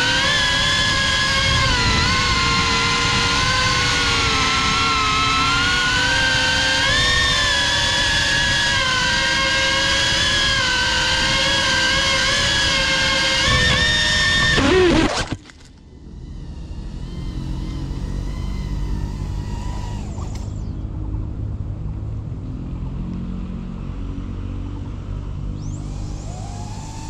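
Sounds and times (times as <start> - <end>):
drone motors whining: 0.0 - 21.4, 25.1 - 27.0.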